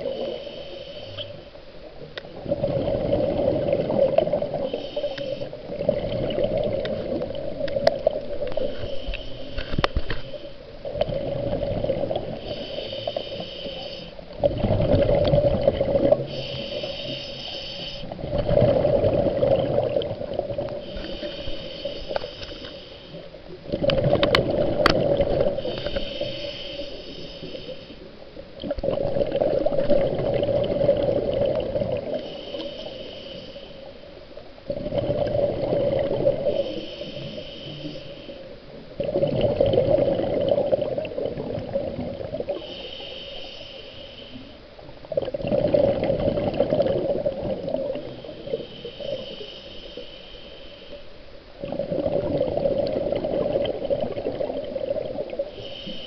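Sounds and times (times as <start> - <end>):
scuba diver breathing underwater: 0.0 - 1.6, 2.4 - 28.2, 28.8 - 34.1, 34.7 - 56.0.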